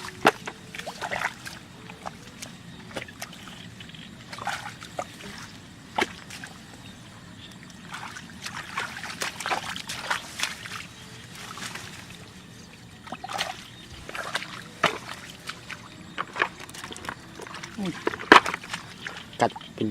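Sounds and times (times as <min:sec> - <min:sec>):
water sloshing and splashing: 0:00.0 - 0:19.9.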